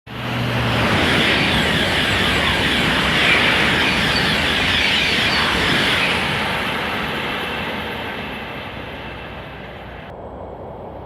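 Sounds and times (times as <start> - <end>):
train rolling on rails: 0.1 - 11.0.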